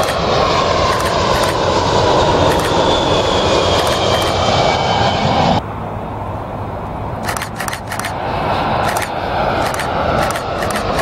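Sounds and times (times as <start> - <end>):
jet flying overhead: 0.0 - 11.0.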